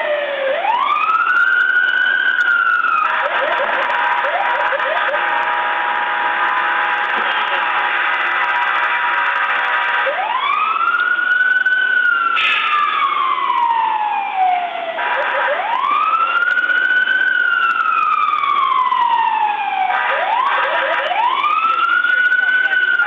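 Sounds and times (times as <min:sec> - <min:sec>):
police siren wailing: 0:00.0 - 0:23.0.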